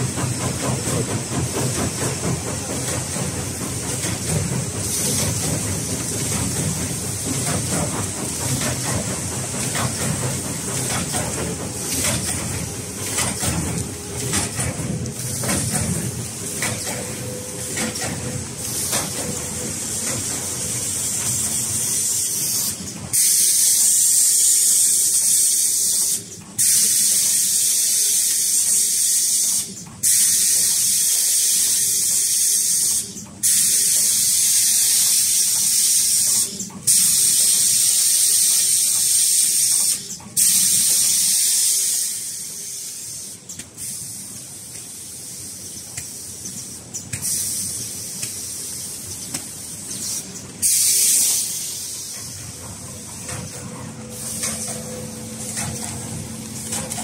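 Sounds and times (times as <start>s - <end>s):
machinery air hiss: 0.0s - 57.0s.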